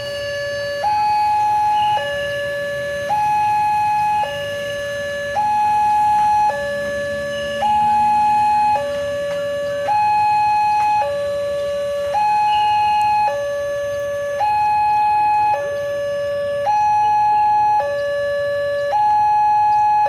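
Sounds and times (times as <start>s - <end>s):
two-tone electronic siren: 0.0s - 20.0s.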